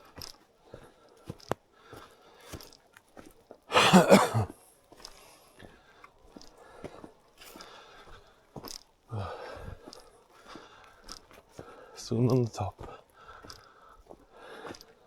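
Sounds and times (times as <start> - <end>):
footsteps crunching on wet path: 0.0 - 15.0.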